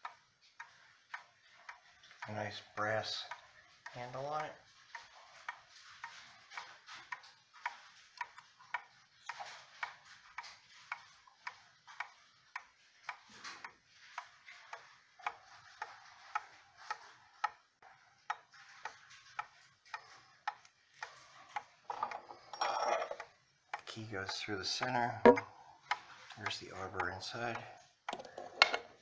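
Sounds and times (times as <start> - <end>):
wall clock ticking: 0.0 - 29.0.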